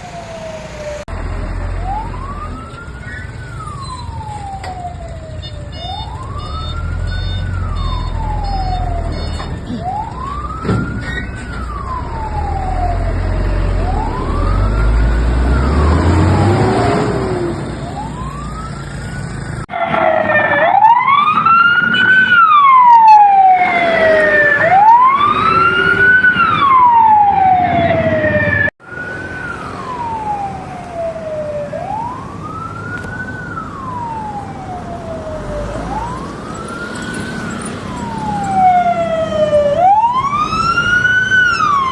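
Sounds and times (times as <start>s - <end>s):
low vehicle rumble: 0.0s - 5.3s, 5.9s - 41.9s
fire truck siren wailing: 0.0s - 41.9s.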